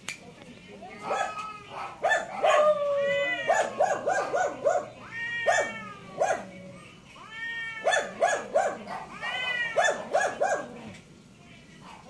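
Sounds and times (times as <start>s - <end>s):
cats yowling: 0.8s - 11.0s.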